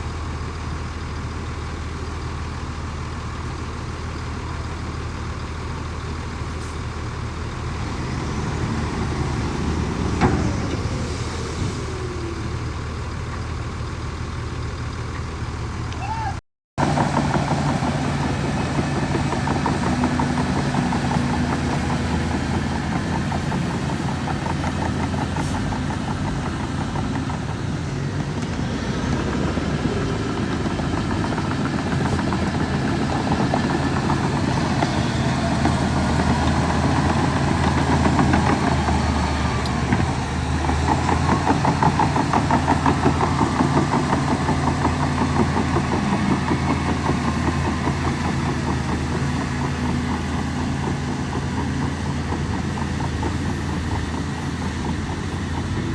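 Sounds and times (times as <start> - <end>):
diesel engine clattering rumble: 0.0 - 55.9.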